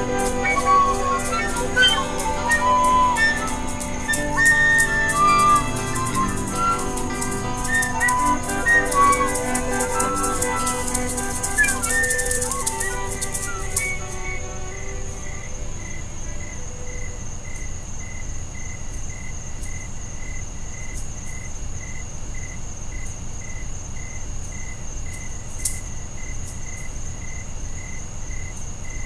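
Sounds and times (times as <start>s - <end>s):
crickets chirping: 0.0s - 29.0s
high insect trill: 0.0s - 29.0s.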